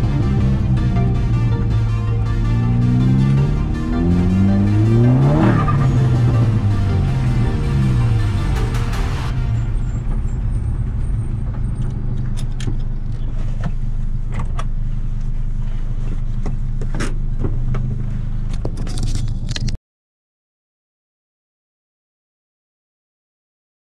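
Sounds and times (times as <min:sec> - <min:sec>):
car engine running: 0:00.0 - 0:19.7.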